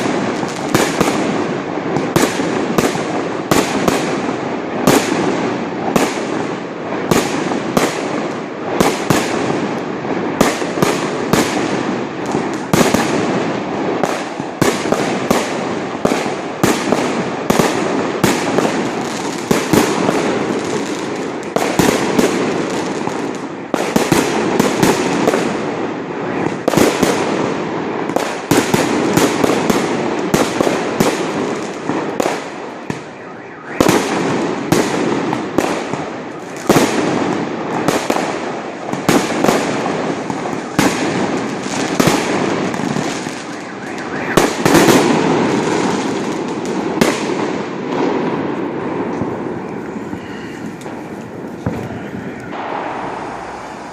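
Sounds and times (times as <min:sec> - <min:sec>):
firecrackers crackling: 0:00.0 - 0:53.9
fireworks banging: 0:00.0 - 0:53.9.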